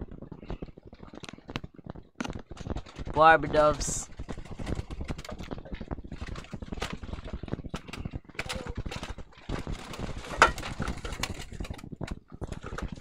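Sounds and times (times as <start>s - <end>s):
doves tapping and clicking: 0.0s - 13.0s.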